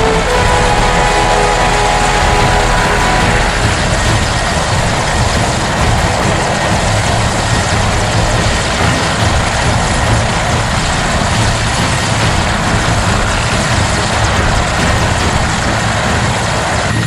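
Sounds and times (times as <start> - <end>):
helicopter turbine and rotor noise: 0.0 - 17.0.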